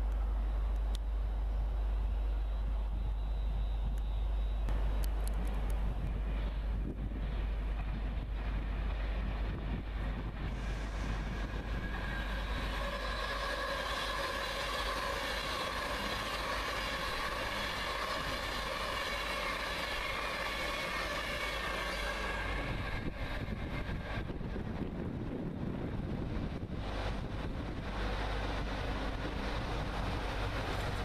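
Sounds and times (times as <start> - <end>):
multi-tone train whine: 0.0 - 31.0
train passing at speed: 0.0 - 31.0
wind buffeting microphone: 4.7 - 31.0.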